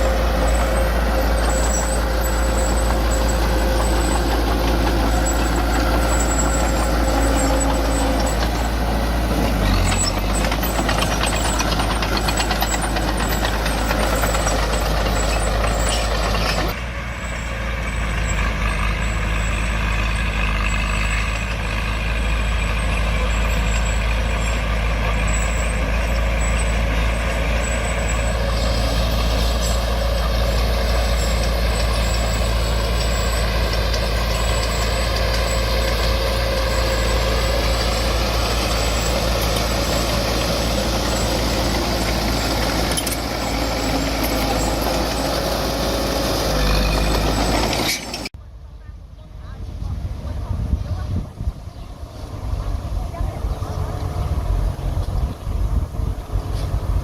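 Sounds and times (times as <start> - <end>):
diesel earthmoving machinery engine: 0.0 - 57.0.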